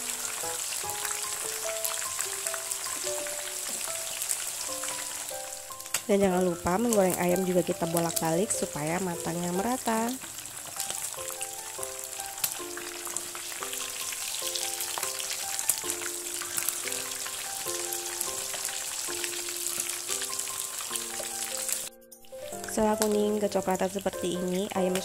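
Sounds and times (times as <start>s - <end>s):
chicken sizzling in hot oil: 0.0s - 25.0s
quiet background music: 0.0s - 25.0s.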